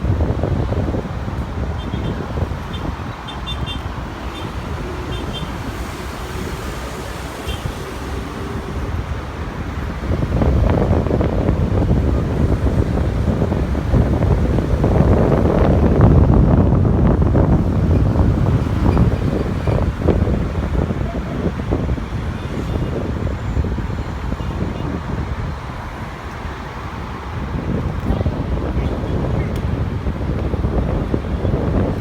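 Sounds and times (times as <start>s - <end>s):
aircraft engines rumbling: 0.0s - 32.0s
wind buffeting microphone: 0.0s - 32.0s.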